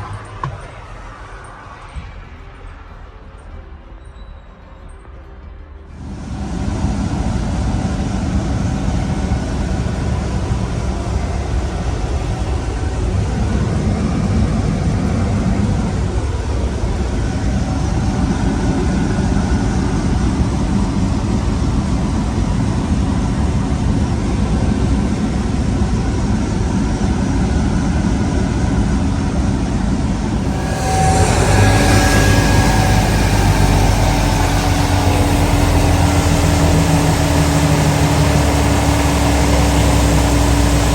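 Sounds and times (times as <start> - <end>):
steady whining tones: 5.9 - 40.9
heavy engine rumbling: 6.0 - 40.9.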